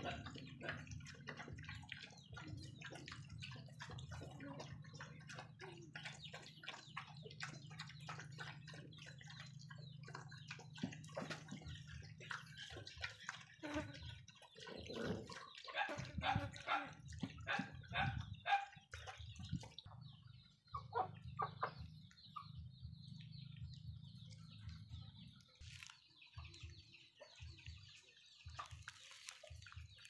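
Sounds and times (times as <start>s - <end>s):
dogs lapping liquid: 0.0s - 30.0s.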